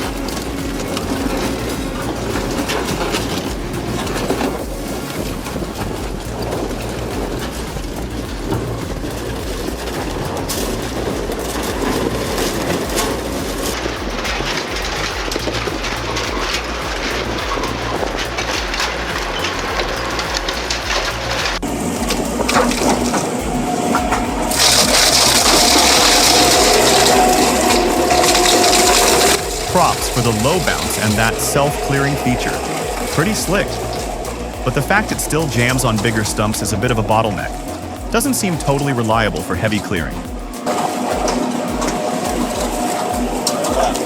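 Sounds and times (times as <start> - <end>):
shredding machine grinding: 0.0 - 38.2, 40.2 - 44.0
machine whine: 0.0 - 44.0.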